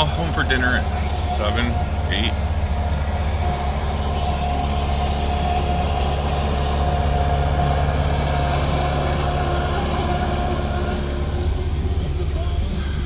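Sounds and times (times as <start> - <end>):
constant whine: 0.0 - 13.0
vehicle engine rumbling: 0.0 - 13.0.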